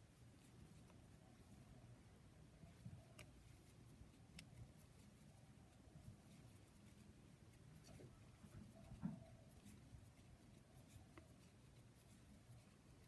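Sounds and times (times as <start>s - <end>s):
crochet hook pulling yarn: 0.0s - 1.6s, 2.6s - 13.0s.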